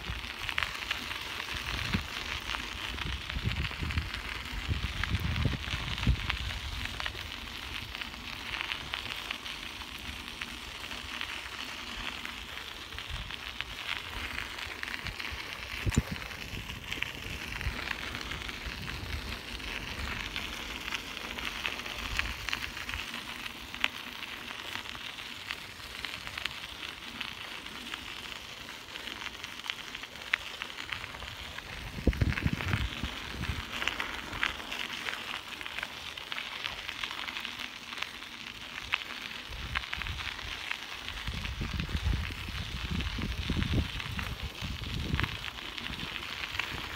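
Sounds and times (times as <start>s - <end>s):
bicycle tyres on gravel: 0.0s - 46.9s.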